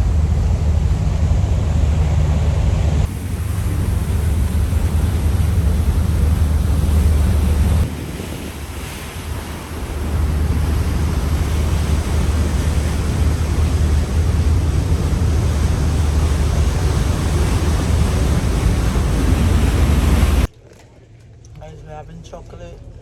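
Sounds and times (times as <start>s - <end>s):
wind rushing over microphone: 0.0s - 20.5s
sea: 0.0s - 23.0s.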